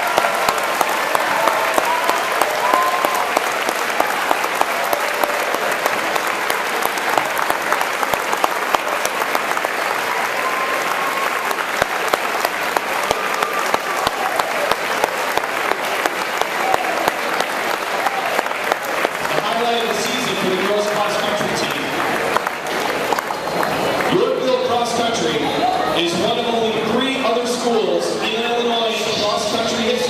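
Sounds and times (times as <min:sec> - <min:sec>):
crowd applauding: 0:00.0 - 0:26.6.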